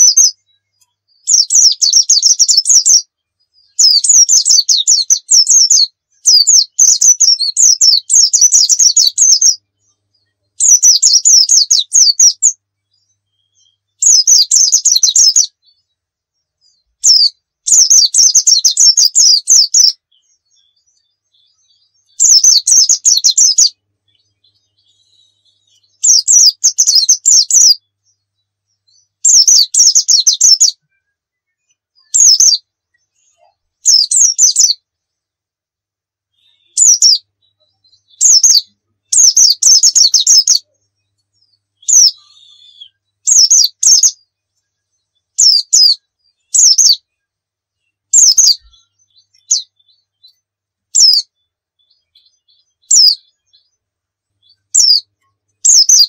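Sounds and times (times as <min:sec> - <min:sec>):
bird singing rapid high notes: 0:00.0 - 0:15.9, 0:16.6 - 0:34.8, 0:36.3 - 0:47.1, 0:47.8 - 0:53.8, 0:54.4 - 0:56.0.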